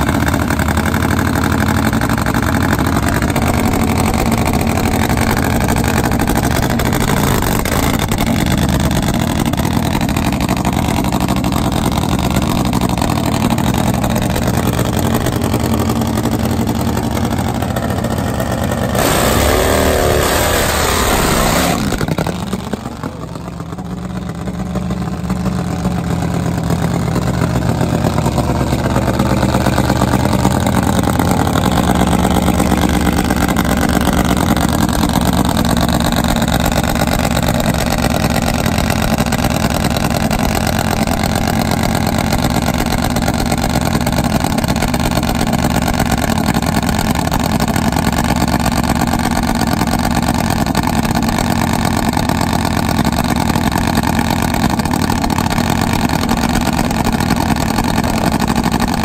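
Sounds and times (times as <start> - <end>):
motorcycle engine idling loudly: 0.0 - 59.0
second motorcycle engine running: 0.0 - 59.0.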